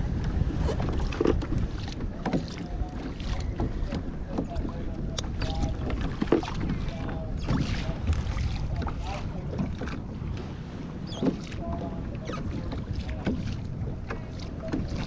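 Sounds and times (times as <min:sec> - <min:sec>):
waves lapping against kayak hull: 0:00.0 - 0:15.0
wind rumbling on microphone: 0:00.0 - 0:15.0.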